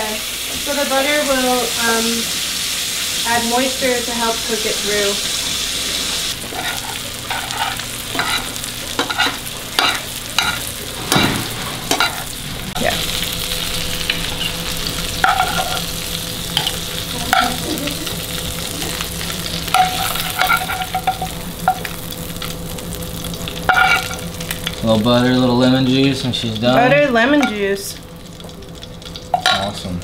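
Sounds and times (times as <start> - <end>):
fish sizzling in a skillet: 0.0 - 29.9.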